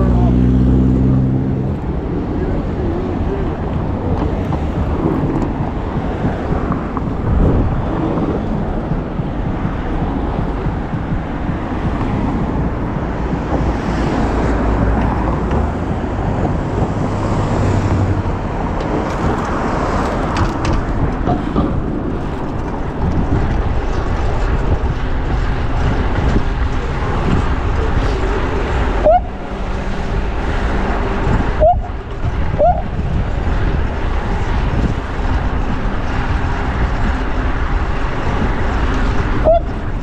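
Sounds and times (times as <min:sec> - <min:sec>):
deep traffic rumble: 0:00.0 - 0:40.0.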